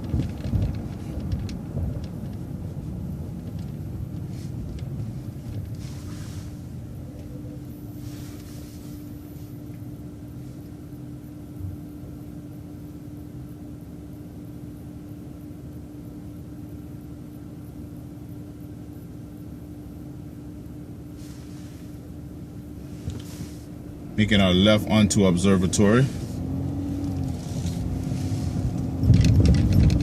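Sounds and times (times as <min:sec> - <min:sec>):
bus low rumble: 0:00.0 - 0:30.0
steady hum: 0:00.0 - 0:30.0.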